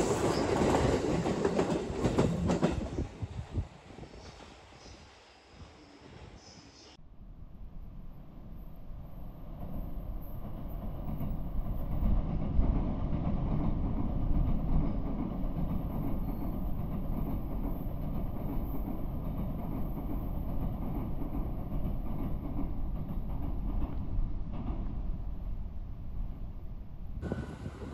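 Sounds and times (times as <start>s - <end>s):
train rumbling on rails: 0.0s - 27.9s.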